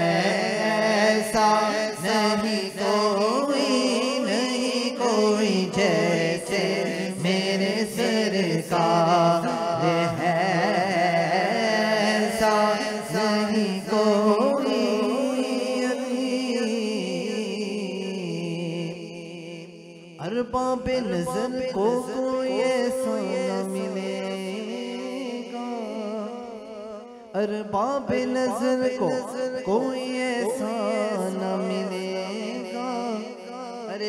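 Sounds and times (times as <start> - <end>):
man singing into a microphone: 0.0 - 34.0.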